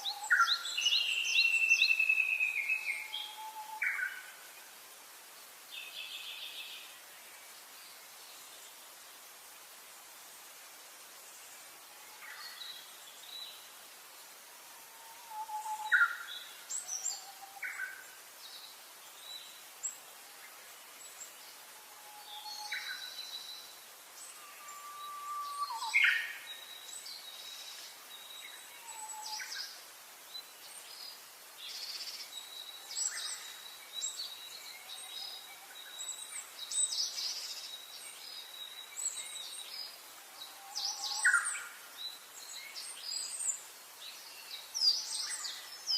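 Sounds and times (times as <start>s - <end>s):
faint steady hiss: 0.0s - 45.9s.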